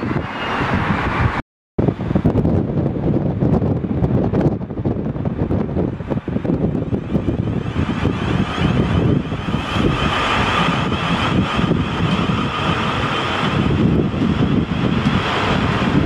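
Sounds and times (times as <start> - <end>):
electric train rumble and hum: 0.0 - 16.0
wind buffeting on microphone: 0.0 - 16.0.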